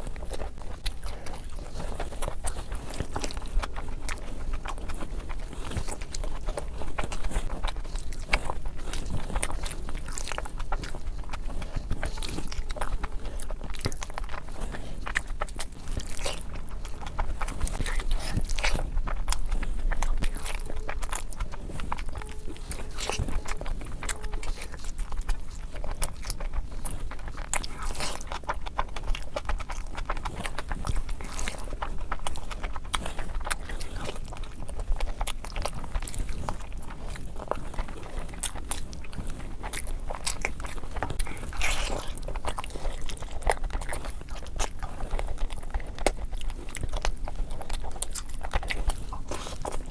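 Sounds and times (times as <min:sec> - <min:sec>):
wet chewing and biting: 0:00.0 - 0:49.9.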